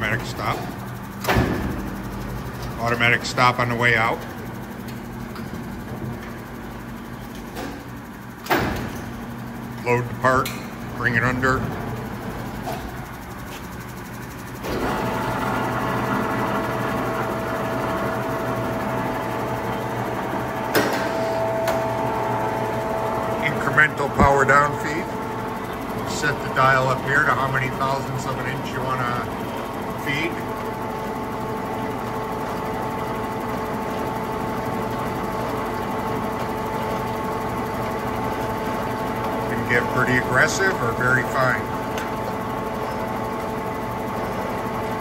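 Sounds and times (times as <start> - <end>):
grinder mechanical hum: 0.0 - 45.0.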